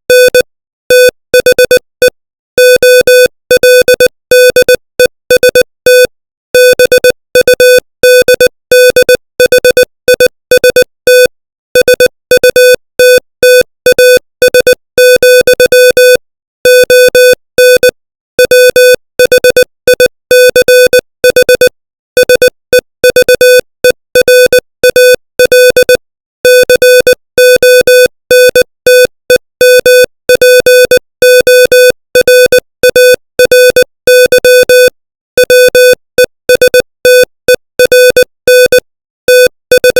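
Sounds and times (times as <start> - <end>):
morse code electronic tone: 0.1 - 39.9.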